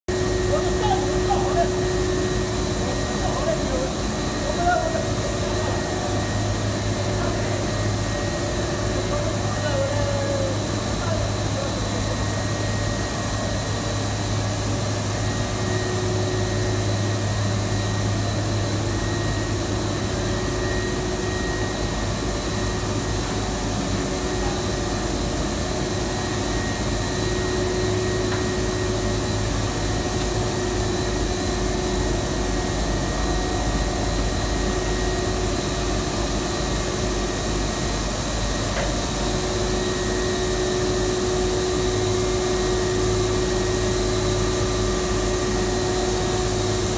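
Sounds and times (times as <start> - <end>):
machine humming and whining: 0.1 - 46.9.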